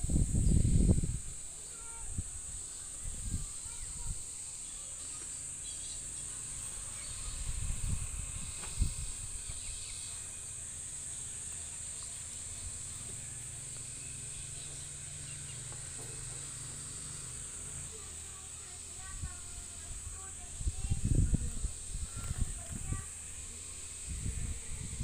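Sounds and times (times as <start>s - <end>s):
high-pitched insect chirring: 0.0s - 25.0s.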